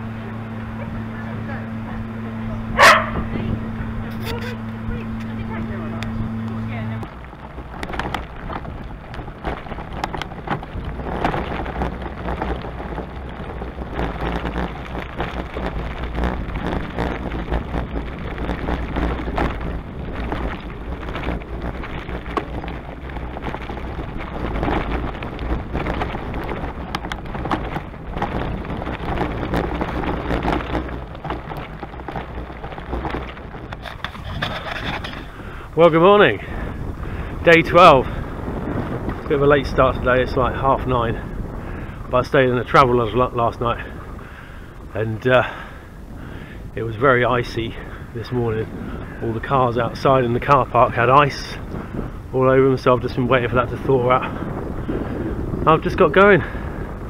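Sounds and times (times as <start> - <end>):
wind buffeting microphone: 0.0 - 57.0
small crackles: 4.0 - 57.0.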